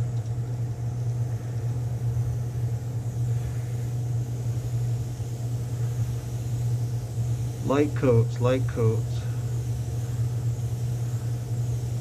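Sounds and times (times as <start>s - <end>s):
airbrush hissing: 0.0s - 12.0s
electric motor humming: 0.0s - 12.0s.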